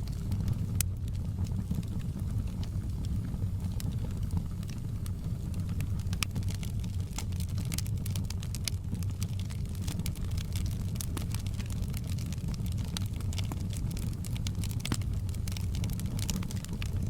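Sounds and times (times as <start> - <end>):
fire rumbling: 0.0 - 17.0
logs crackling and popping: 0.0 - 17.0.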